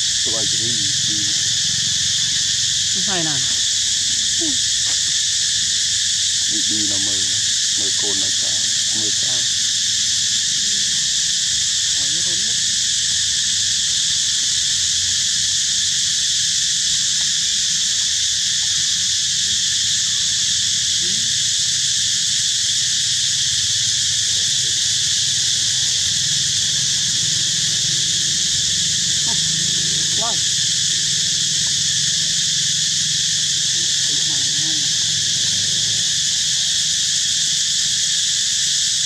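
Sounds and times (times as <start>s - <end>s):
high-pitched insect chorus: 0.0s - 39.0s.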